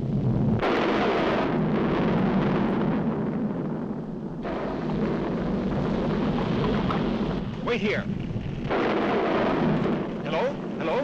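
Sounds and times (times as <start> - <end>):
cartoon volcano eruption rumbling: 0.0 - 11.0.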